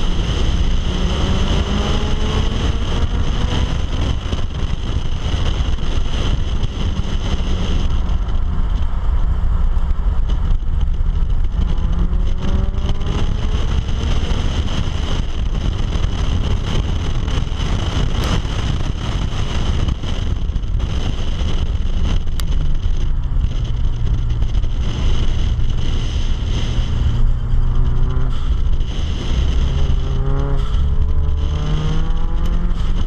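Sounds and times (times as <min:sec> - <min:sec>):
car engine at high revs: 0:00.0 - 0:33.0
wind and road noise: 0:00.0 - 0:33.0.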